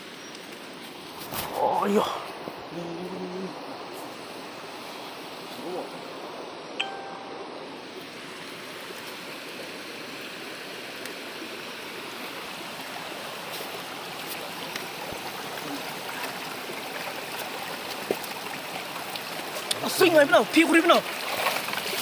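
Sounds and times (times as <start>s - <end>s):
stream flowing over stones: 0.0s - 22.0s.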